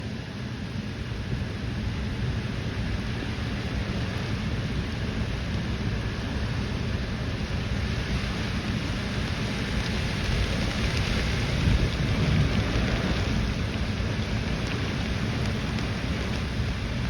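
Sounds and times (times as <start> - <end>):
heavy rain falling: 0.1 - 17.0.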